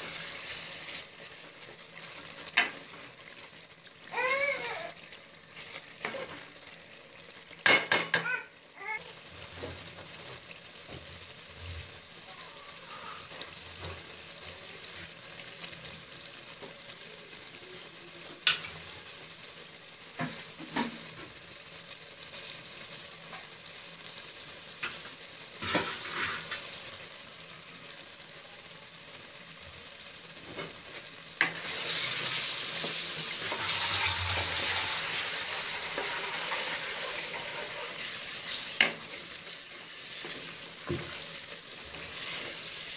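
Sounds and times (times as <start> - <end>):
food sizzling in a pan: 0.0 - 42.9.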